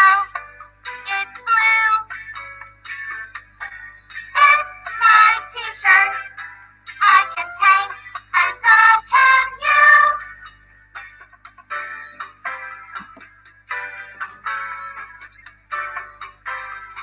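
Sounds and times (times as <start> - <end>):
children's song with light backing: 0.0 - 17.0.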